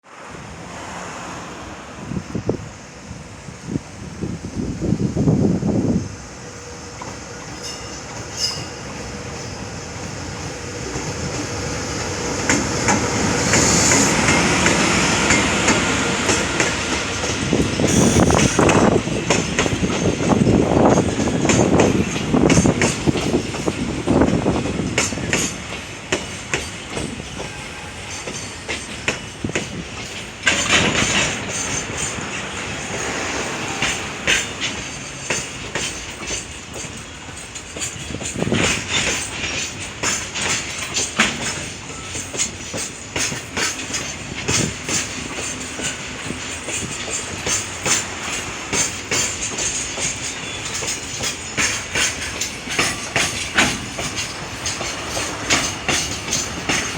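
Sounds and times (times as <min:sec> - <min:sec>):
freight train rumbling: 0:00.0 - 0:56.9
train wheels clattering over rail joints: 0:06.9 - 0:56.9.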